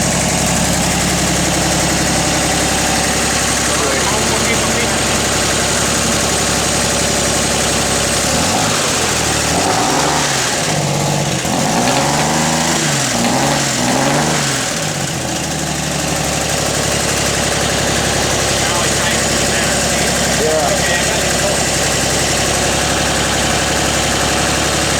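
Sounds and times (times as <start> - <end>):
loud car engine idling and revving: 0.0 - 24.9.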